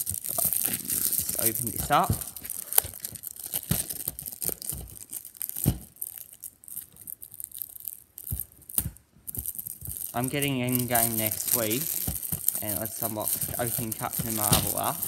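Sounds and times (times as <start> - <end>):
cellophane wrap tearing and crinkling: 0.0 - 15.0.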